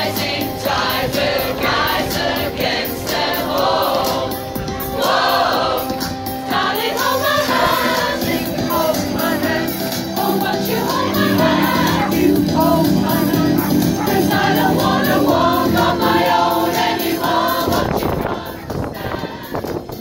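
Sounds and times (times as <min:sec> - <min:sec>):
choir singing a pop song: 0:00.0 - 0:20.0.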